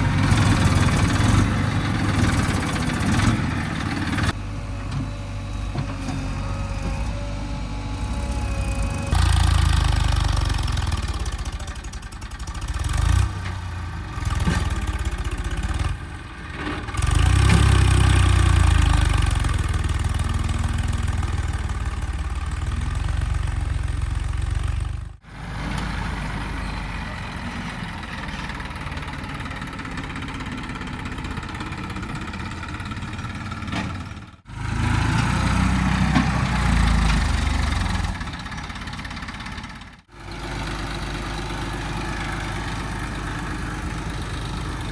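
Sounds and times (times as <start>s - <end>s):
diesel engine working under load: 0.0s - 44.9s.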